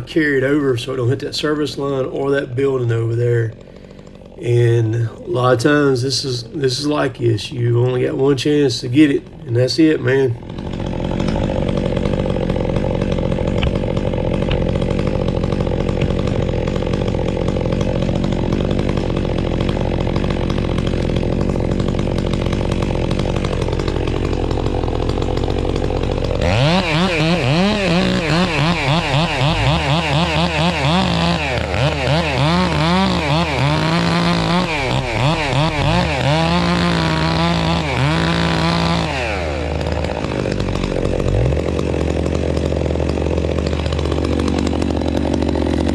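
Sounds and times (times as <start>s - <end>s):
chainsaw cutting tree: 0.0s - 45.9s.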